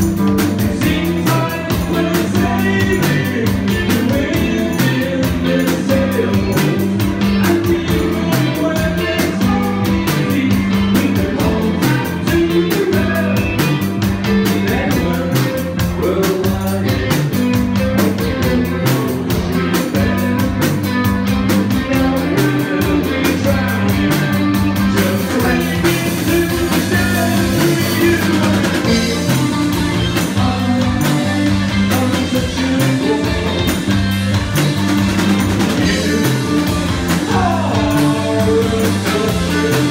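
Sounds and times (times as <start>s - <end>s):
person singing lead vocal: 0.0s - 20.8s, 21.5s - 34.3s, 35.6s - 39.9s
rock band playing: 0.0s - 39.9s.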